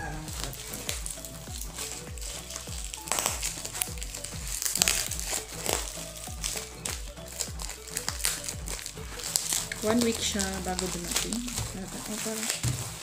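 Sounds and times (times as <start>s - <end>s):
background music with steady beat: 0.0s - 13.0s
bubble wrap crinkling: 0.0s - 13.0s.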